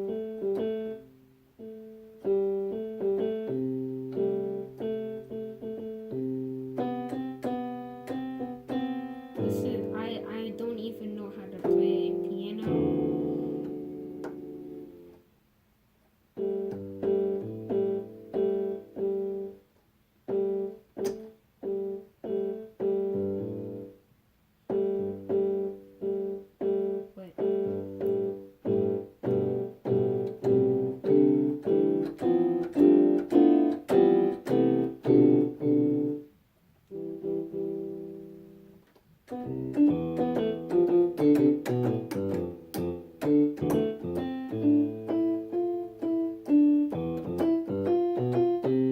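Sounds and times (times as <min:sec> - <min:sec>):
piano notes and chords: 0:00.0 - 0:15.4, 0:16.3 - 0:24.0, 0:24.6 - 0:48.9.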